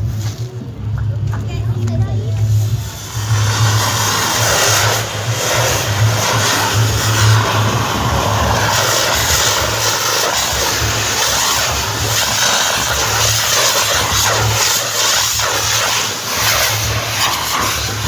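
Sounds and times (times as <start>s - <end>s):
firework rushing hiss: 0.0s - 18.0s
low drone: 0.0s - 18.0s.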